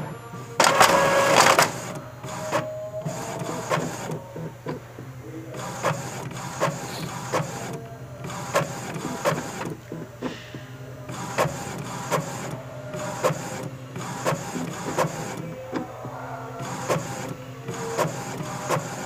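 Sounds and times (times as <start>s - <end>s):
printer mechanism whirring: 0.0s - 19.0s
printer clicking: 0.6s - 10.3s, 11.1s - 19.0s.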